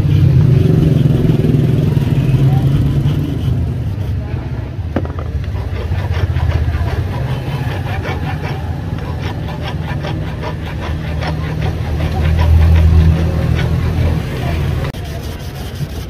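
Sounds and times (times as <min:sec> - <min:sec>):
hand file rasping on steel: 0:00.0 - 0:16.0.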